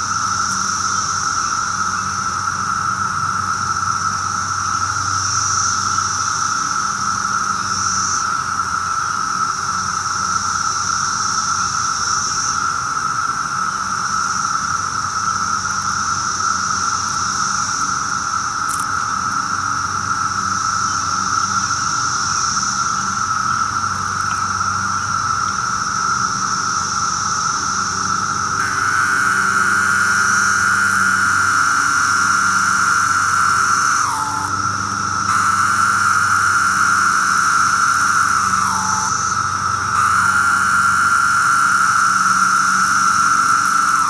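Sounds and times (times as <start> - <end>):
cicada buzzing calls: 0.0 - 44.0
steady high-pitched drone: 0.0 - 44.0.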